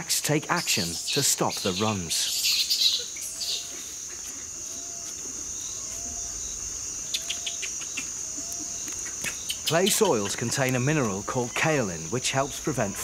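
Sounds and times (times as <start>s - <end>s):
high-pitched insect drone: 0.3s - 13.0s.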